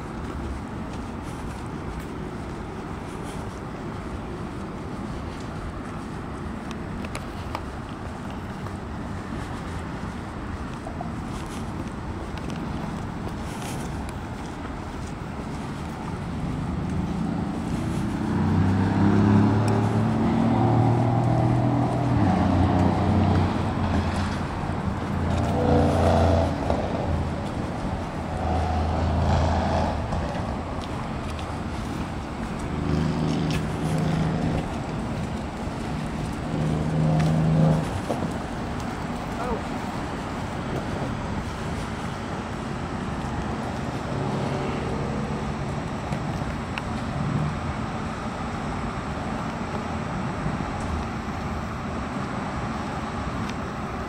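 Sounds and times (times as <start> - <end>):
distant city traffic rumble: 0.0 - 54.0
low engine drone: 0.0 - 54.0.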